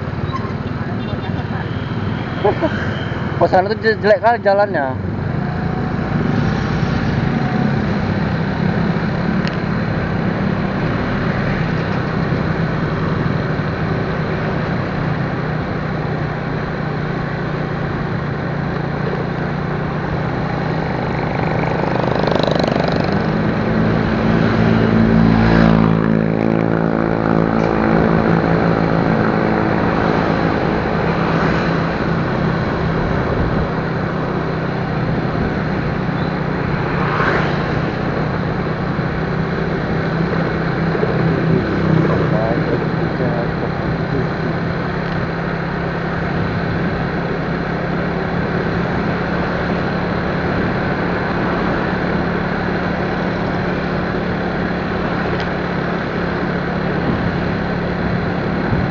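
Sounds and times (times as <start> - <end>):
wind and road noise: 0.0 - 58.9
motorcycle engine running: 7.0 - 37.1, 37.7 - 58.9.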